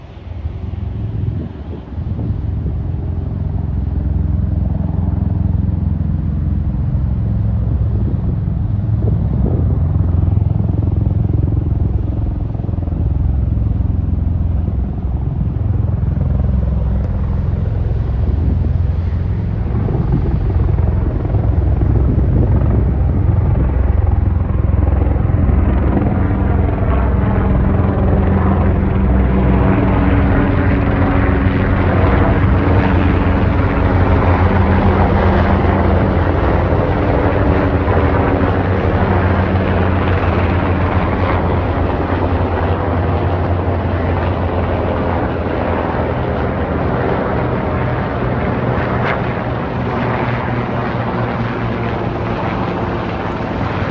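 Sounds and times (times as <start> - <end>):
helicopters flying over: 0.0 - 53.9.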